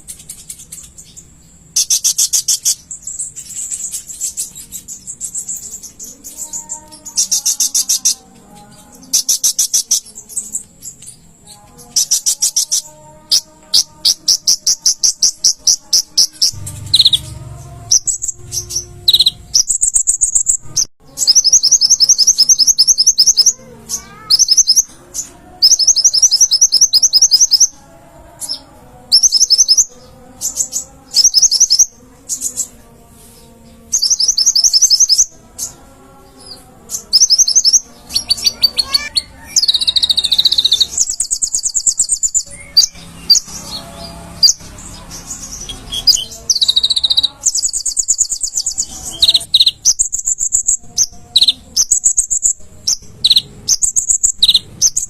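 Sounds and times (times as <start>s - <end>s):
bird singing rapid high trills: 0.0s - 55.0s.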